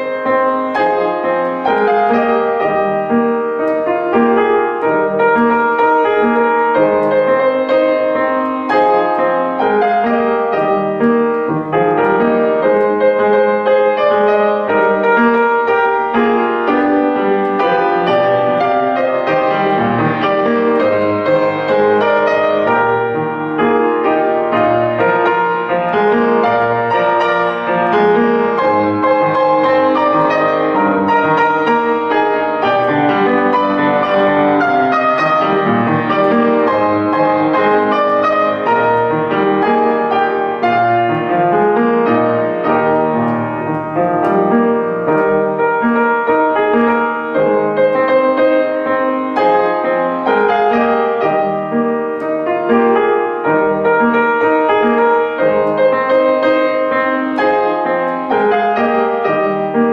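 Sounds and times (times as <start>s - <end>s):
solo piano piece: 0.0s - 59.9s.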